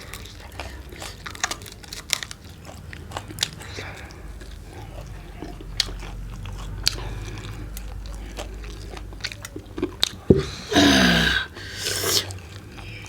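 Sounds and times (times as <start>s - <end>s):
close chewing and crunching: 0.0s - 13.0s.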